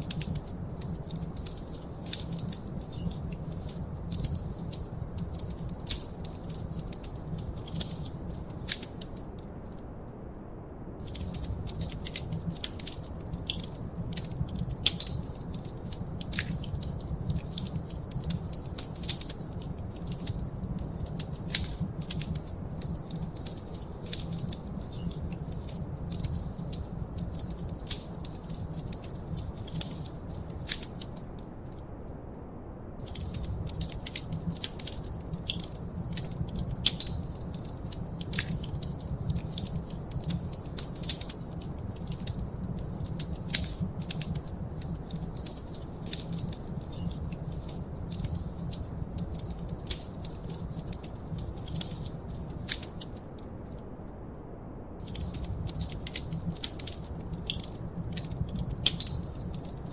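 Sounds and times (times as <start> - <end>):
wood fire crackling and popping: 0.0 - 9.9, 11.0 - 31.9, 33.0 - 54.0, 55.0 - 59.9.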